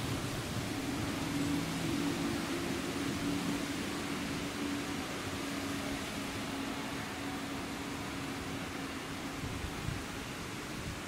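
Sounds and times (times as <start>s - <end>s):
electric train humming: 0.0s - 10.2s
open-air hiss: 0.0s - 11.0s.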